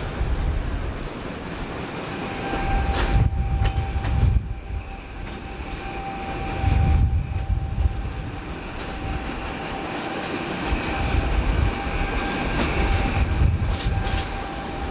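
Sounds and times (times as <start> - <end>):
train rumbling on rails: 0.0 - 14.9
wheels clicking on rail joints: 0.0 - 14.9
thin steady whine: 1.2 - 14.9.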